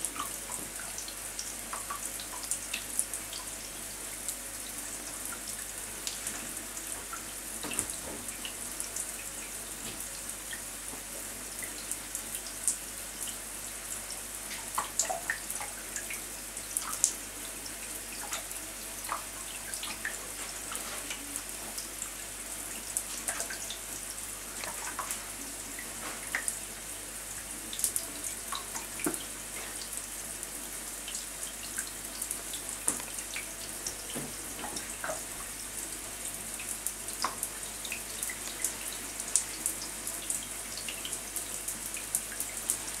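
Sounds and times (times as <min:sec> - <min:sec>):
drips and splashes on shower tray: 0:00.0 - 0:43.0.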